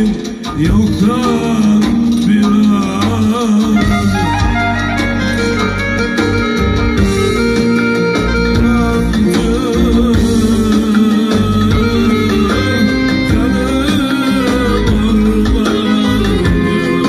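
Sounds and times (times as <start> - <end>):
man singing into a microphone: 0.0 - 5.7, 7.6 - 17.0
electronic keyboard melody and beat: 0.0 - 17.0.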